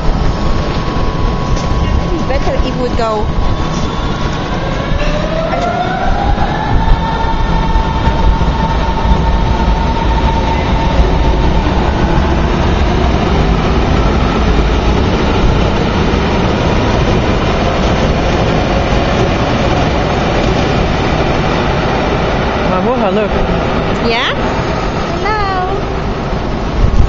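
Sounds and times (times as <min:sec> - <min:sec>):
train wheels rumbling past: 0:00.0 - 0:27.0.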